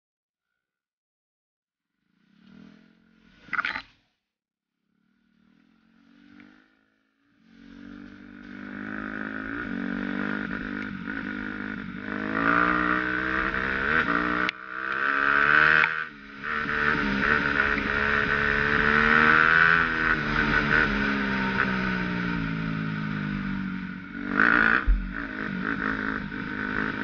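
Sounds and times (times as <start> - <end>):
dirt bike engine accelerating: 5.0 - 27.0.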